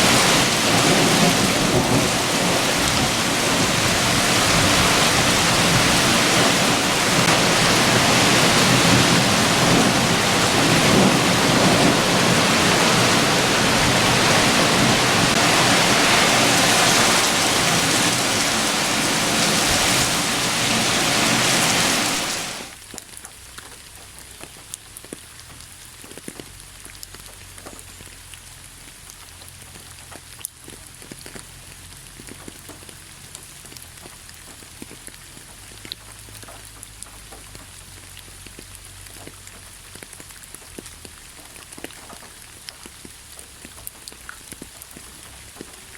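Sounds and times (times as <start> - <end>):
heavy rain pouring: 0.0 - 22.8, 25.7 - 45.9
scattered raindrops pattering: 0.0 - 45.9.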